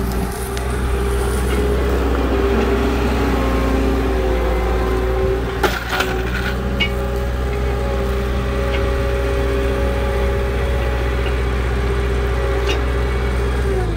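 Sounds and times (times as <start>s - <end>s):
machine engine humming: 0.0s - 13.9s.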